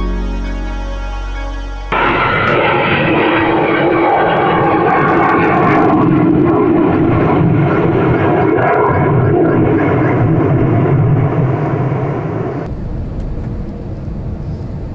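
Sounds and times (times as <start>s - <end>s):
fighter jets roaring overhead: 1.9s - 14.9s.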